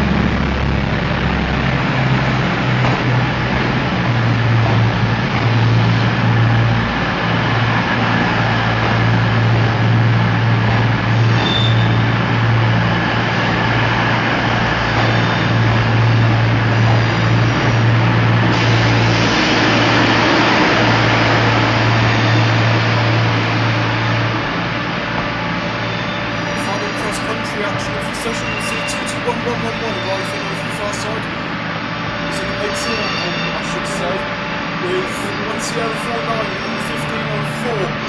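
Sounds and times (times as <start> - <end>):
diesel train engine droning: 0.0 - 38.0
station noise hiss: 0.0 - 38.0.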